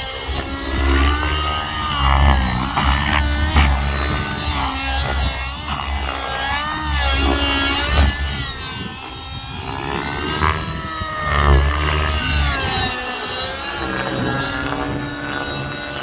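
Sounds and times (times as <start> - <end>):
model helicopter engine whine: 0.0 - 16.0.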